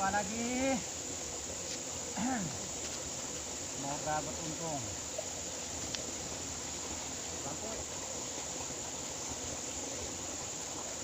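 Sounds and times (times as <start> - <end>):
even outdoor hiss: 0.0 - 11.0.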